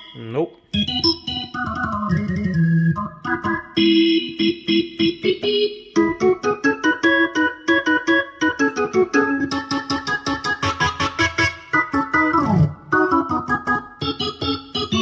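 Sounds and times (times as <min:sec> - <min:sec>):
electronic organ keyboard playing: 0:00.0 - 0:15.0.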